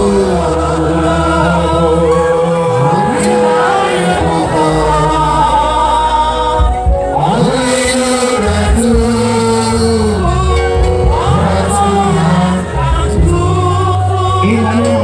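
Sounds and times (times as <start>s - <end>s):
band with heavy bass: 0.0s - 15.0s
voices singing held notes: 0.0s - 15.0s.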